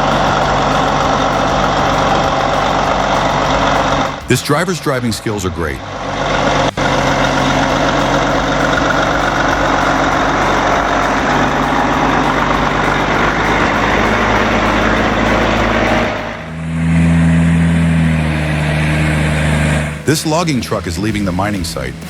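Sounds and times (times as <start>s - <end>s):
heavy truck engine running: 0.0s - 22.0s
smooth engine hum: 0.0s - 22.0s.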